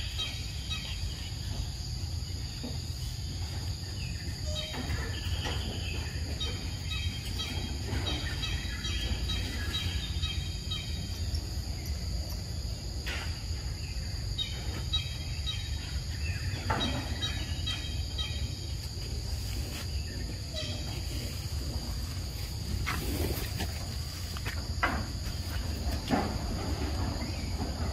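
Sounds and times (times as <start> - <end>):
constant low rumble: 0.0 - 27.9
high insect drone: 0.0 - 27.9.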